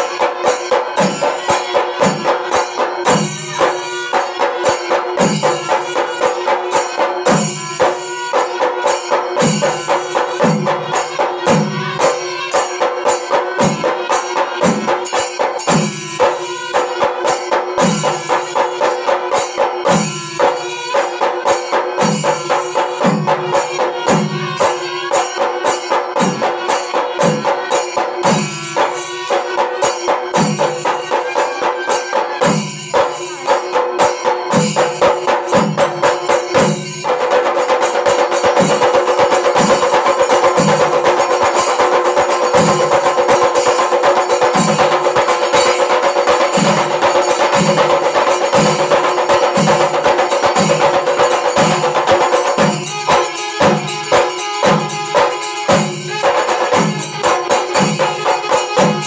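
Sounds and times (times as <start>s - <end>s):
cymbals: 0.0s - 59.0s
ensemble of drums: 0.0s - 59.0s.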